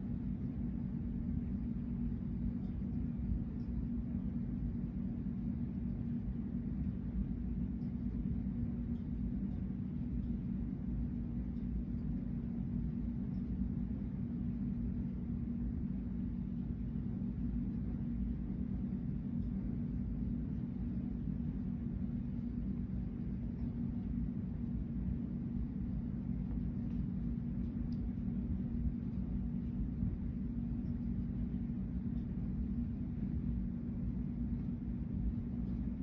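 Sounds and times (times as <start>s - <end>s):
low mechanical hum: 0.0s - 36.0s
rumble: 0.0s - 36.0s.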